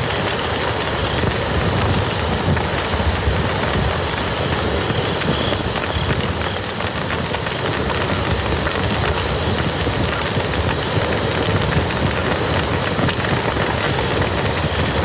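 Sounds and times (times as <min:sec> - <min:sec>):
campfire crackling: 0:00.0 - 0:15.0
river flowing: 0:00.0 - 0:15.0.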